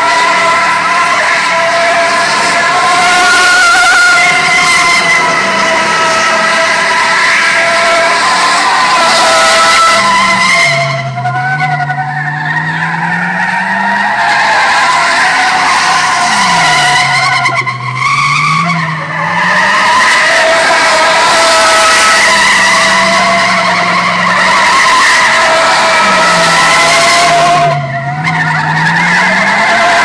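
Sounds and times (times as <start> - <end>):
truck engine revving high: 0.0 - 30.0
tyre squeal: 0.0 - 30.0.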